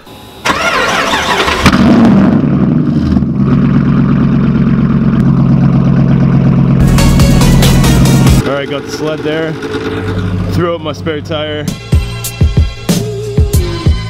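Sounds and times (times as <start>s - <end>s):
vehicle engine starting and idling: 0.4s - 13.9s.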